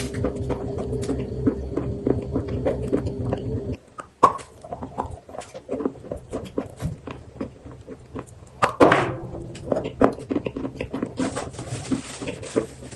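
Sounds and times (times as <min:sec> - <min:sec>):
chewing and crunching: 0:00.0 - 0:12.9
low hum: 0:00.0 - 0:12.9.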